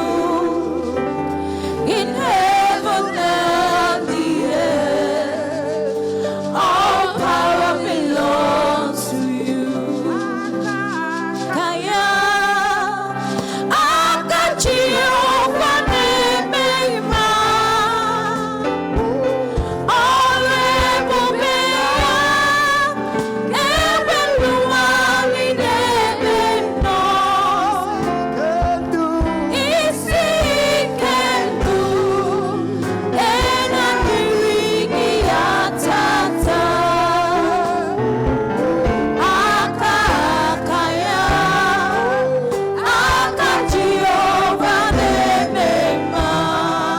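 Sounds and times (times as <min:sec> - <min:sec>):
choir singing gospel: 0:00.0 - 0:46.9
band with steady beat: 0:06.0 - 0:11.9, 0:12.8 - 0:46.9.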